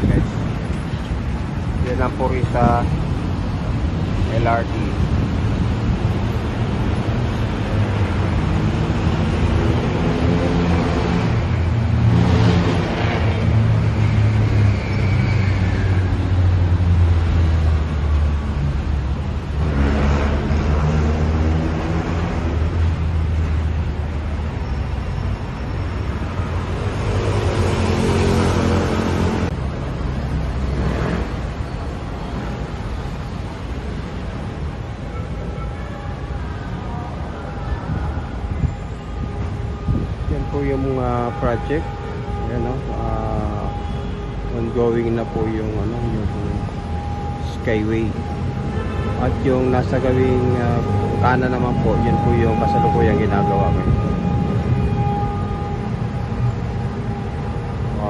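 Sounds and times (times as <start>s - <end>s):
vehicles passing by: 0.0s - 58.0s.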